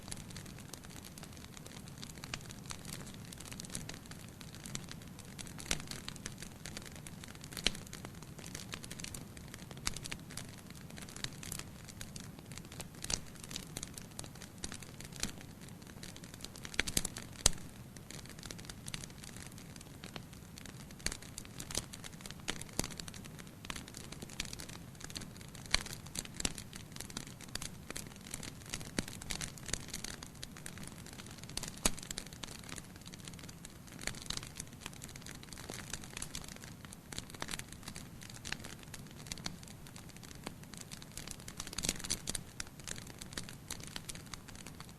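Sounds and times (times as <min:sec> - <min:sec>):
bonfire crackling and popping: 0:00.0 - 0:44.9
low steady background noise: 0:00.0 - 0:44.9.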